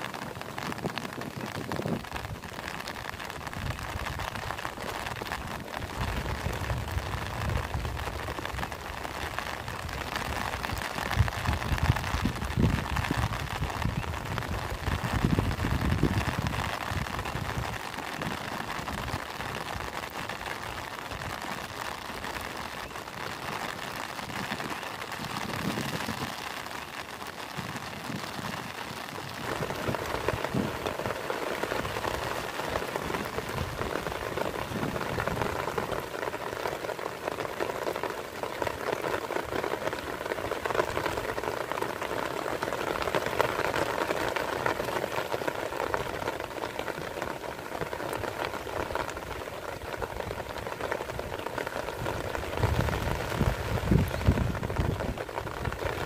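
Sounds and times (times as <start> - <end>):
rain falling into puddles: 0.0 - 56.0.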